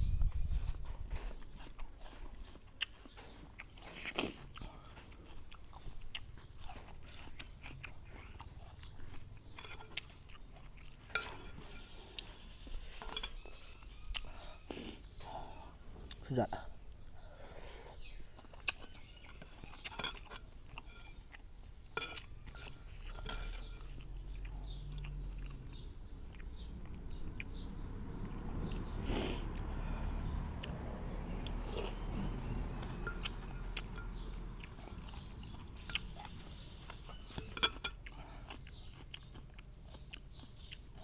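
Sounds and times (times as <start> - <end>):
chewing and wet mouth clicks: 0.2 - 15.2, 18.0 - 29.7, 30.6 - 41.0.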